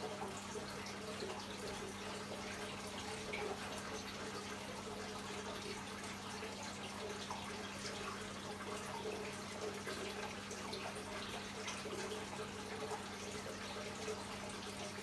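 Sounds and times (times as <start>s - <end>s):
water trickling and dripping: 0.0s - 15.0s.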